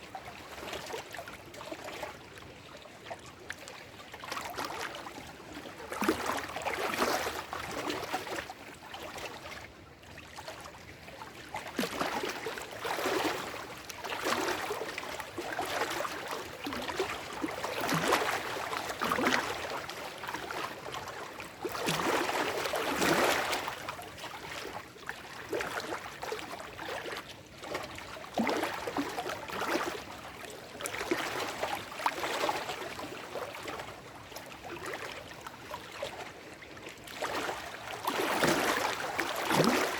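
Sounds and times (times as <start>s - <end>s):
water splashes and gurgles: 0.0s - 39.9s.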